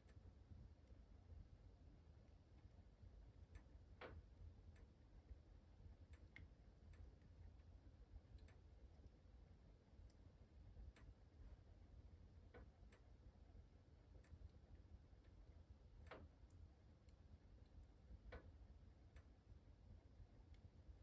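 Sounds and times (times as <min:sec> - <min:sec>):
low rumble of burning fire: 0:00.0 - 0:21.0.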